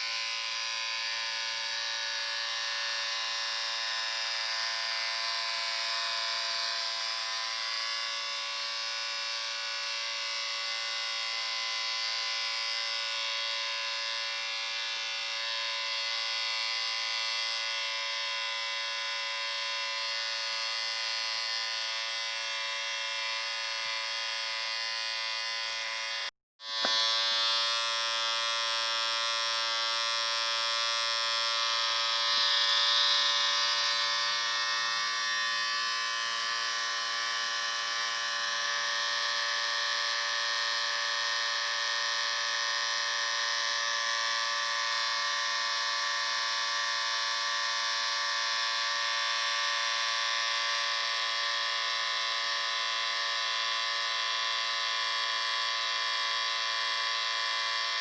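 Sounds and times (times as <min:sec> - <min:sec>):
electric shaver buzzing: 0:00.0 - 0:58.0.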